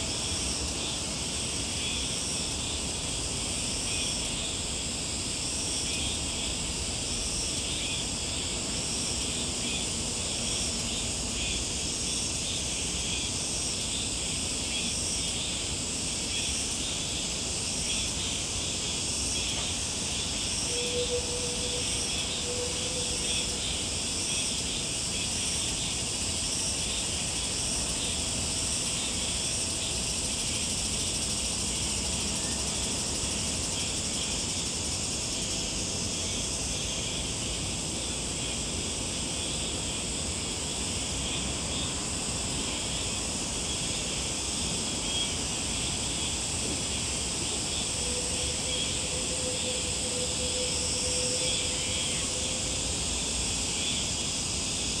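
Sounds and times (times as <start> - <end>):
insects chorus pulsing drone: 0.0 - 55.0.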